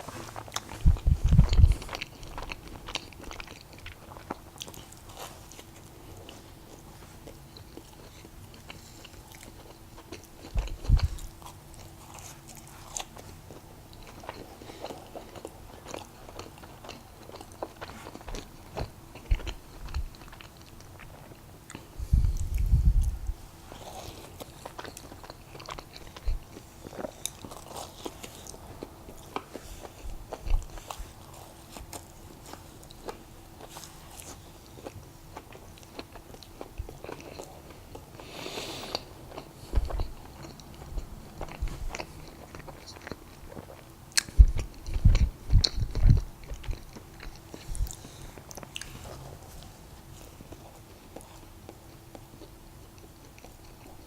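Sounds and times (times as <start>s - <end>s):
person chewing: 0.0s - 54.0s.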